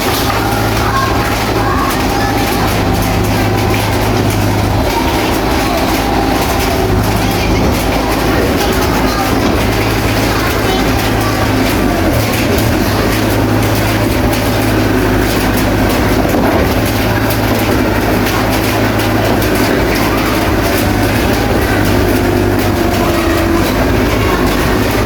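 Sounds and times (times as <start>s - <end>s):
diesel engine drone: 0.0s - 25.0s
steel tracks clanking: 0.0s - 25.0s.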